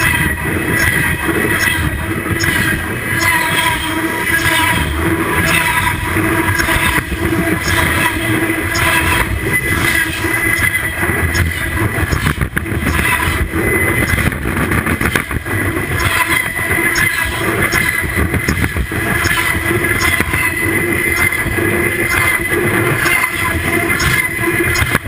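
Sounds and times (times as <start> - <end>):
high-pitched wheel squeal: 0.0 - 25.0
train wheels rumbling on rails: 0.0 - 25.0.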